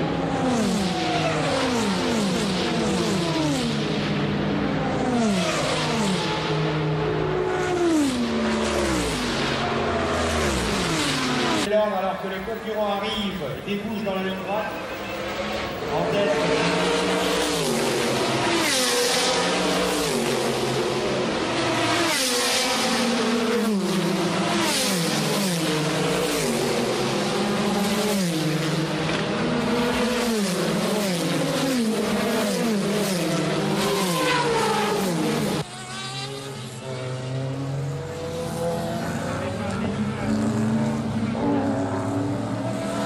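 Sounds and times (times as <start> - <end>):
drone of distant cars: 0.0 - 43.0
racing cars passing at speed: 0.0 - 43.0.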